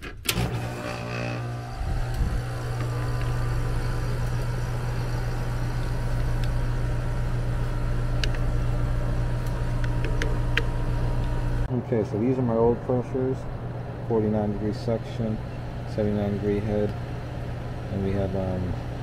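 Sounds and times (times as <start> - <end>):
air conditioner humming: 0.2 - 19.0.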